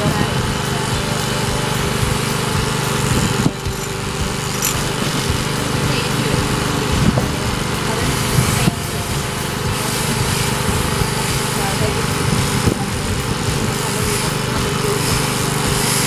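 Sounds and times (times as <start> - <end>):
electric shears motor buzz: 0.0 - 16.0.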